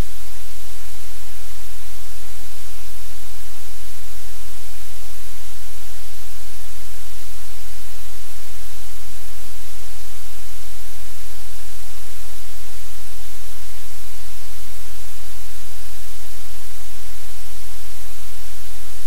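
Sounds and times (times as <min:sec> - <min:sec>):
static hiss: 0:00.0 - 0:19.0.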